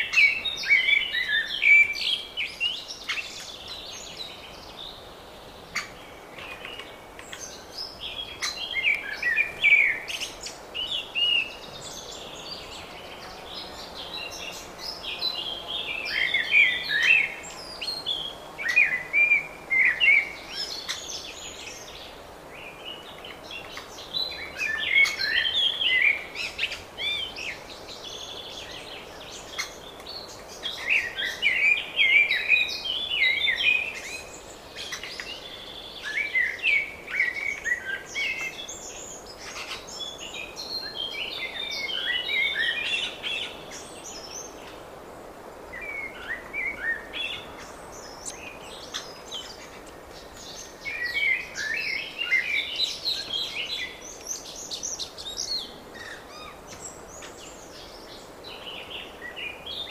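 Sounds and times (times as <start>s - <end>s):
faint background hiss: 0.0s - 59.9s
songbirds singing: 0.0s - 59.9s.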